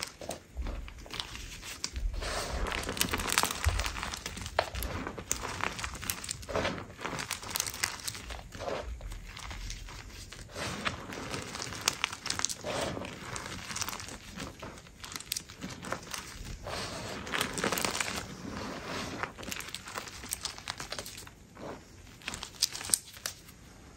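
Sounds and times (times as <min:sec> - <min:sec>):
chalk crunching in hands: 0:01.0 - 0:23.4.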